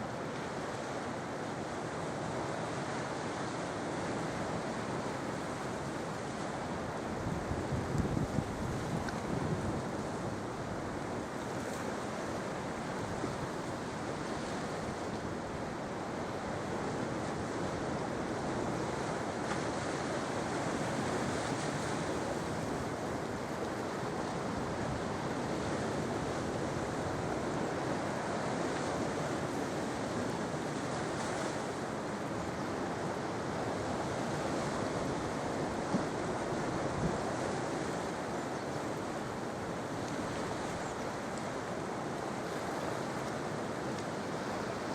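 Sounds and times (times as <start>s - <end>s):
sea waves washing on shore: 0.0s - 44.9s.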